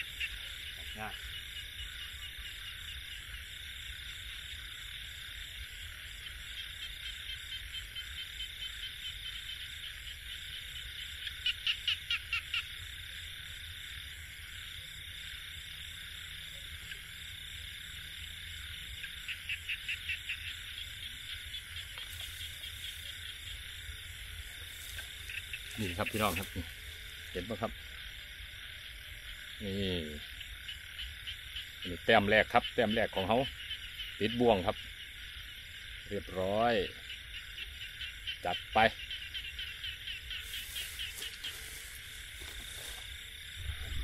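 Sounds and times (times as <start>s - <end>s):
frogs and insects chirring: 0.0s - 44.0s
insect trill: 0.0s - 44.0s.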